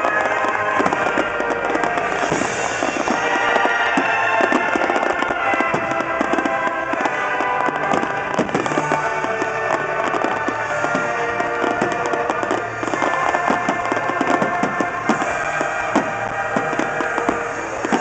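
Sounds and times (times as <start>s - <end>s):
fireworks bursting and crackling: 0.0s - 18.0s
music with sustained tones: 0.0s - 18.0s.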